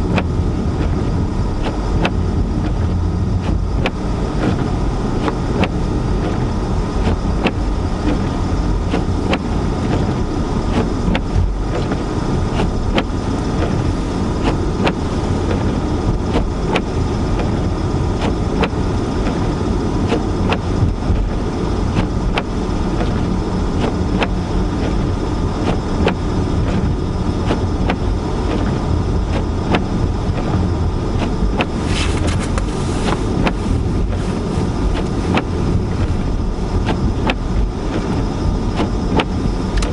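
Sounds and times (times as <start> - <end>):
engine and tyres rumbling: 0.0 - 39.9.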